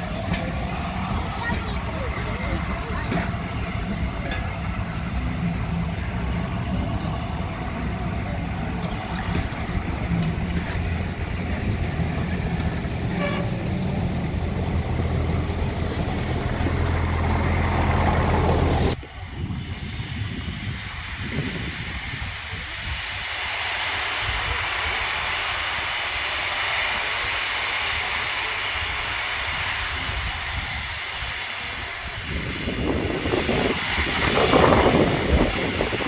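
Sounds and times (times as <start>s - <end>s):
train wheels rumbling and clattering: 0.0s - 36.0s.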